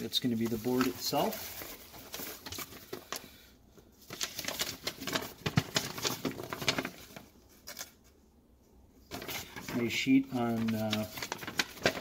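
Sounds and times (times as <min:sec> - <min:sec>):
bubble wrap and paper crinkling: 0:00.0 - 0:08.2, 0:09.1 - 0:12.0.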